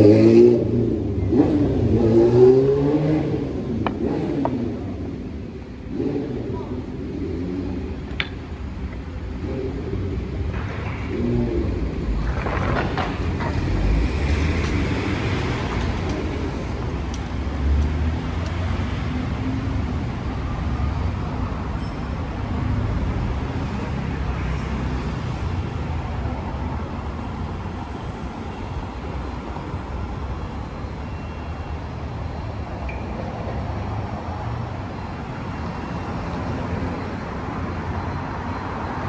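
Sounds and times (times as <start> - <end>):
passing cars and road noise: 0.0 - 39.0.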